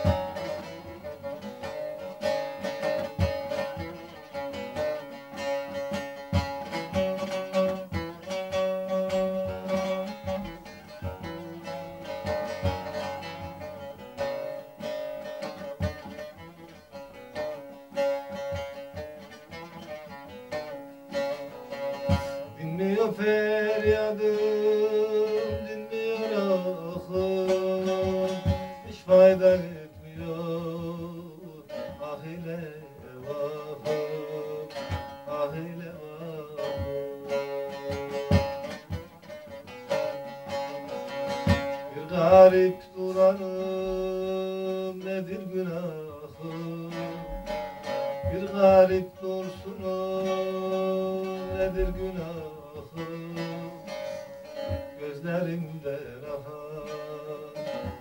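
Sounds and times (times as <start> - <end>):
plucked long-necked lute: 0.0 - 58.0.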